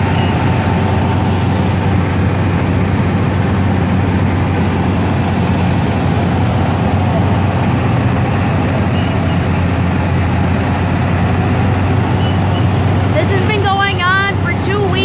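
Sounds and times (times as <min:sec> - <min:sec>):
heavy road machinery diesel drone: 0:00.0 - 0:15.0.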